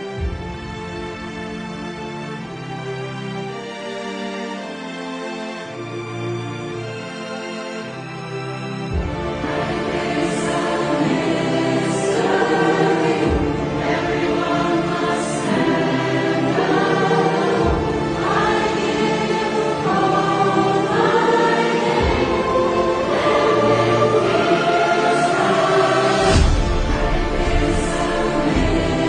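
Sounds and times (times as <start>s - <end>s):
choir singing sustained chords: 0.0s - 29.0s.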